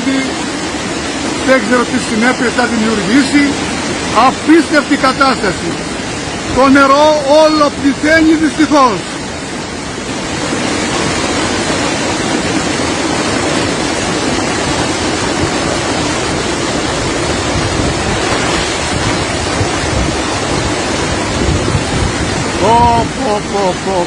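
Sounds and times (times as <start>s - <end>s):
floodwater rushing down a street: 0.0s - 24.0s.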